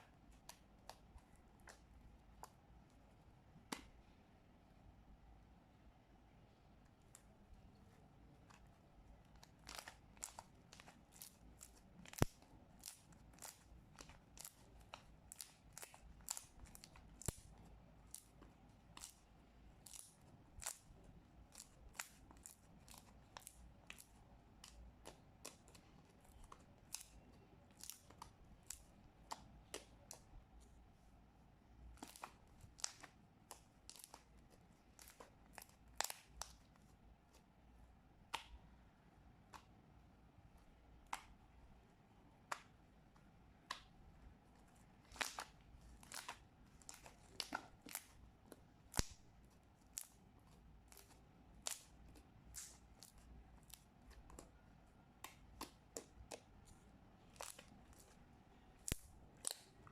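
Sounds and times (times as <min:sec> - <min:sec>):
slime clicking by hand: 0:00.1 - 0:02.7, 0:03.5 - 0:04.0, 0:08.4 - 0:30.8, 0:31.8 - 0:37.4, 0:38.1 - 0:39.9, 0:40.5 - 0:41.6, 0:42.2 - 0:59.9.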